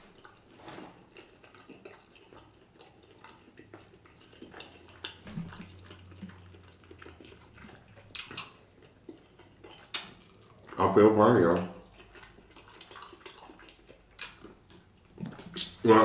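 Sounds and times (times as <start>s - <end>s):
faint chewing: 0.0s - 16.0s
mouth clicks and smacks: 1.6s - 10.8s, 11.8s - 16.0s.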